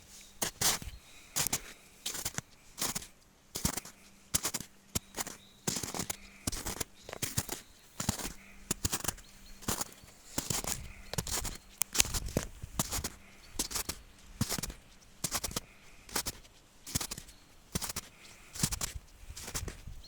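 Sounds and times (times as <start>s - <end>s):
footsteps crunching: 0.0s - 20.0s.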